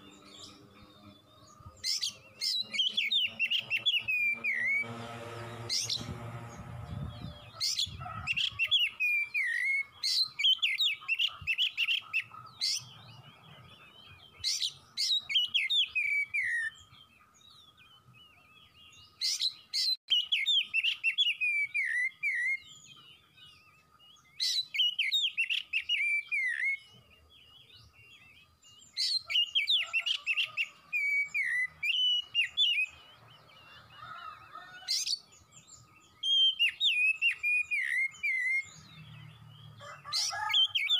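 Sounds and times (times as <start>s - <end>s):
bird singing rapid warbling: 0.0s - 40.9s.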